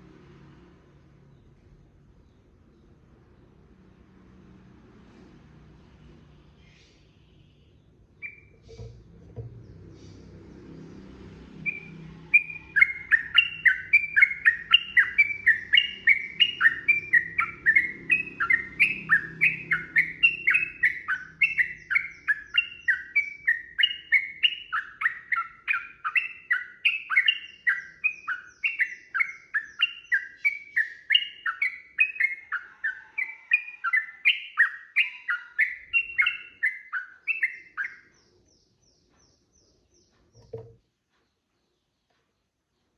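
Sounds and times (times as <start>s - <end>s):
bird chattering song: 6.6s - 10.4s, 11.6s - 42.9s.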